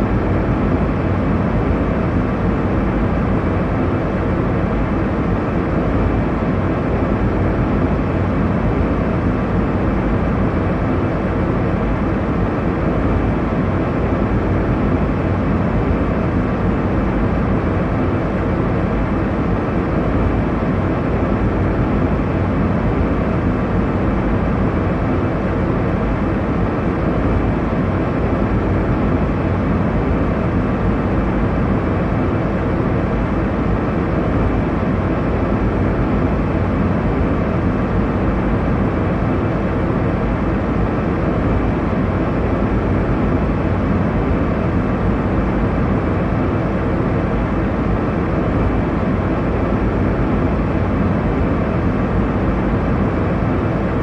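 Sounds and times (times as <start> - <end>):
airliner cabin engine noise: 0.0 - 54.0.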